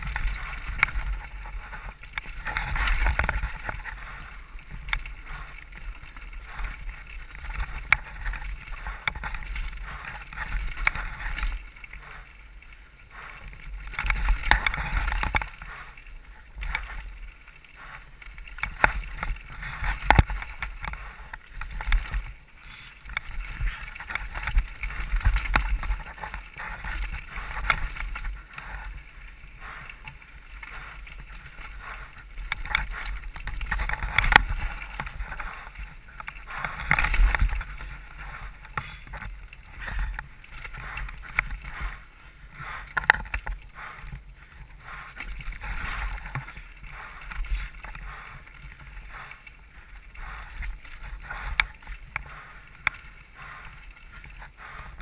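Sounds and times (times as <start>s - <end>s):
bike rattling: 0.0s - 55.0s
wind rumbling on microphone: 0.0s - 55.0s.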